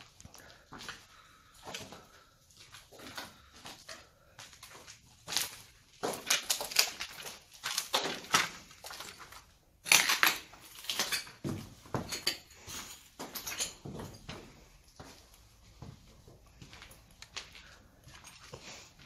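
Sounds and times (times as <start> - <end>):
footsteps crunching over debris: 0.0 - 19.0.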